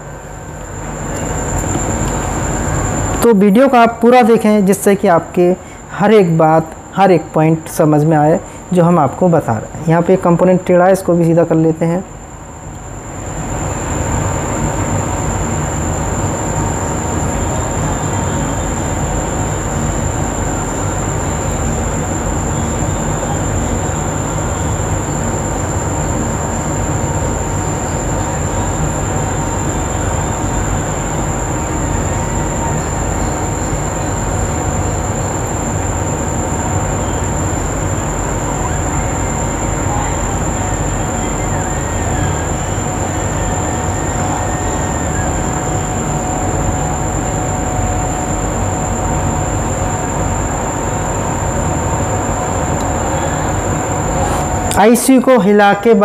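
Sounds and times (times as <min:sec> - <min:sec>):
hot air blower hissing: 0:00.0 - 0:09.8, 0:12.1 - 0:55.8.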